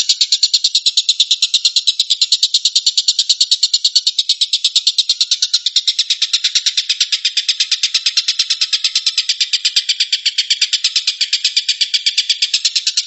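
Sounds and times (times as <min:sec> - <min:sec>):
bird rapid chattering call: 0:00.0 - 0:13.0.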